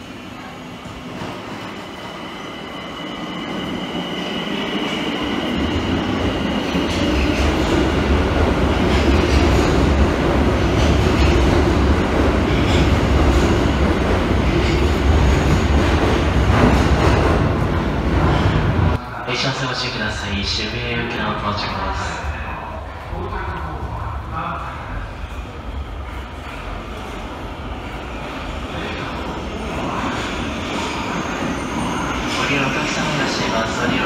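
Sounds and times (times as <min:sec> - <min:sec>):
subway train accelerating: 0:00.0 - 0:34.0.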